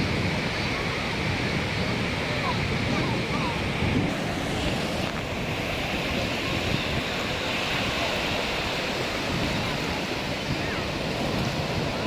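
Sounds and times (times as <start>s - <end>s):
surf breaking on shore: 0.0s - 12.0s
wind on microphone: 0.0s - 12.0s.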